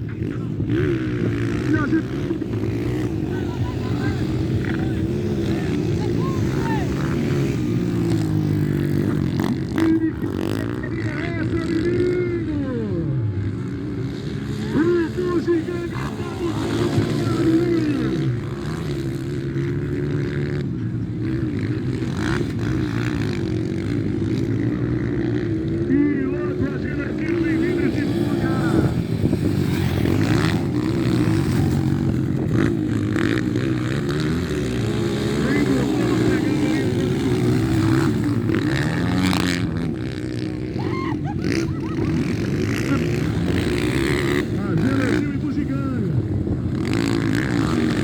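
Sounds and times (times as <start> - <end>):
motocross bike engines: 0.0 - 48.0.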